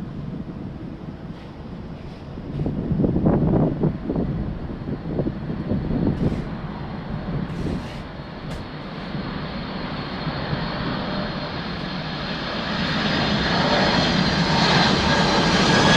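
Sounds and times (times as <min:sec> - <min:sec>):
high jet whine: 0:00.0 - 0:15.9
jet engines rushing: 0:00.0 - 0:15.9.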